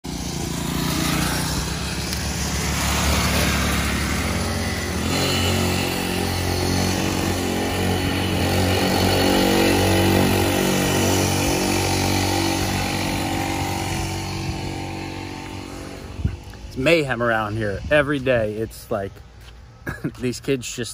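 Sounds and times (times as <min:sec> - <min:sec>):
small motorbike engines revving: 0:00.0 - 0:18.6.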